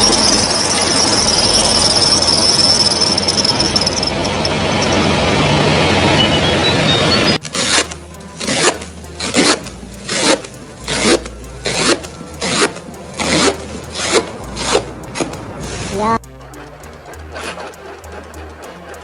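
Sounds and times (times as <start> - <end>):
hand tool rasping on surface: 0.0 - 4.4, 7.4 - 19.0.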